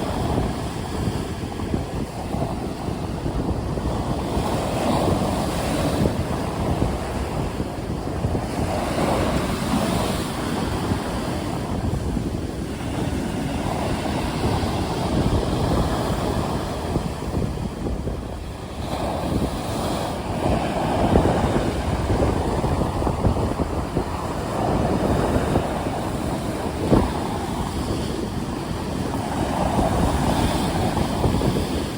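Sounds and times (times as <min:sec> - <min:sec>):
sea waves breaking: 0:00.0 - 0:31.9
wind rushing: 0:00.0 - 0:31.9.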